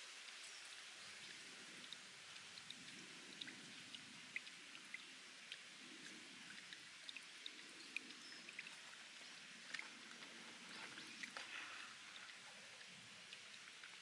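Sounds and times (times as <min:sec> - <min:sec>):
water drips: 0:00.0 - 0:14.0
water trickling over rock: 0:00.0 - 0:14.0.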